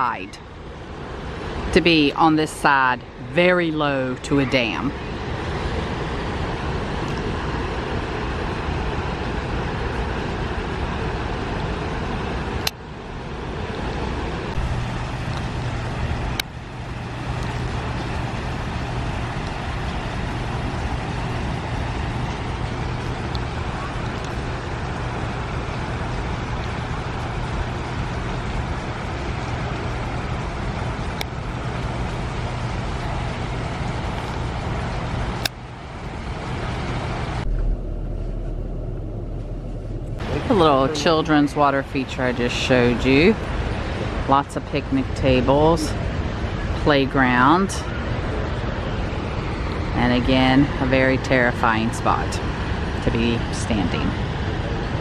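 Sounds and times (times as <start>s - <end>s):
low steady hum: 0.0s - 55.0s
water rushing roar: 0.0s - 55.0s.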